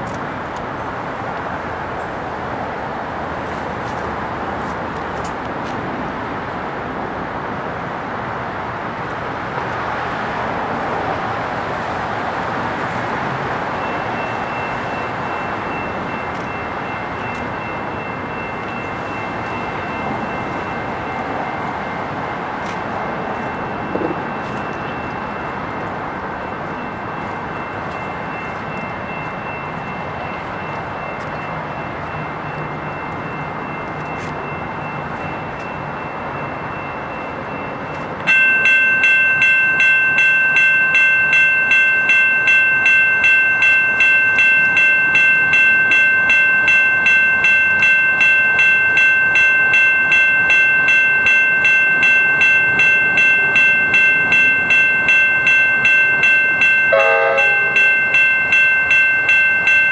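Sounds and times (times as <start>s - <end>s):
freeway traffic noise: 0.0s - 59.9s.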